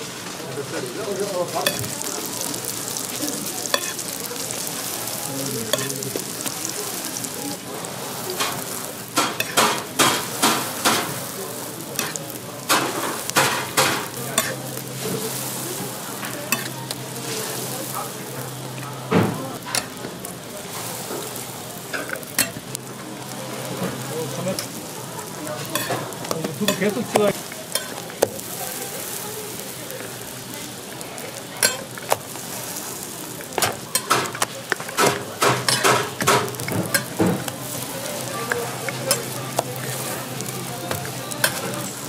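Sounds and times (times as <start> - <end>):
pancakes sizzling in oil: 0.0 - 42.0.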